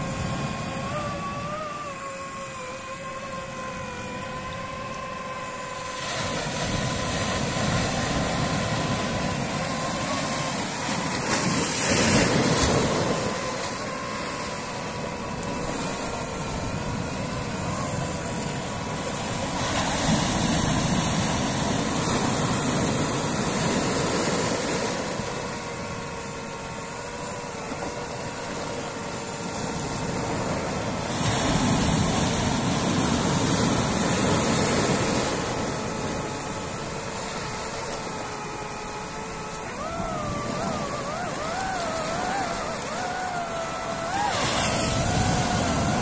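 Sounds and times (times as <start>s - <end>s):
drone propellers whining: 0.0s - 46.0s
rushing wind: 0.0s - 46.0s.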